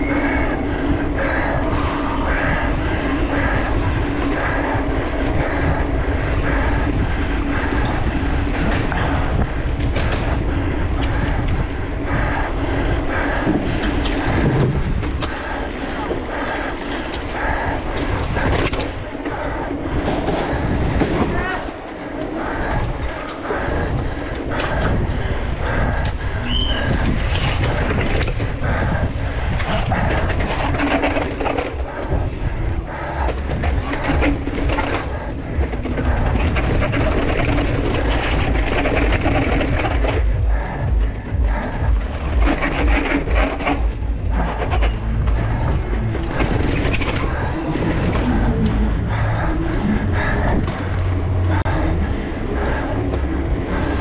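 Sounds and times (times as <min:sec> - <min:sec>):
bike rattling down stairs: 0:00.0 - 0:54.0
wind rumbling on microphone: 0:00.0 - 0:54.0.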